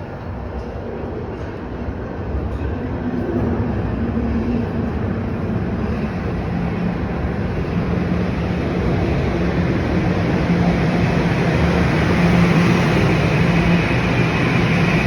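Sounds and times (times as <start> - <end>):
transit vehicle rumble: 0.0 - 15.0.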